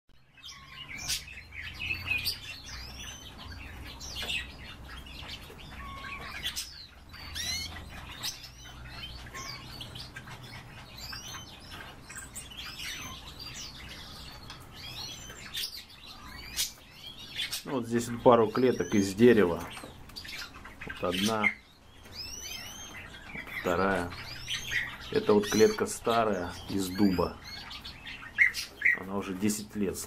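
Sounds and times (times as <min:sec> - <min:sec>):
canaries chirping: 0:00.2 - 0:30.0.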